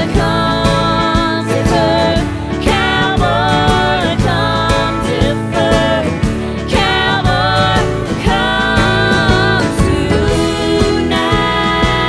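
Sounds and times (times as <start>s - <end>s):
song with beat and bass: 0.0s - 12.0s.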